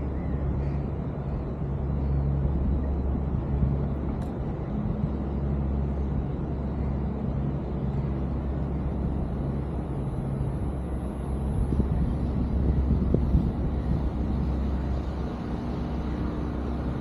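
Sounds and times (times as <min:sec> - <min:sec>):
faint hum: 0:00.0 - 0:17.0
road traffic rumble: 0:00.0 - 0:17.0.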